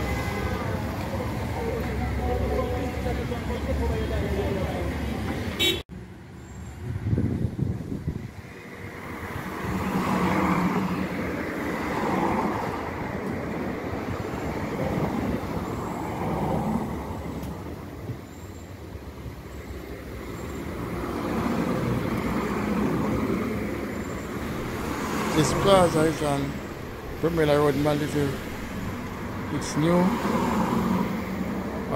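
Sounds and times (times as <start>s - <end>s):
cars passing: 0.0s - 31.9s.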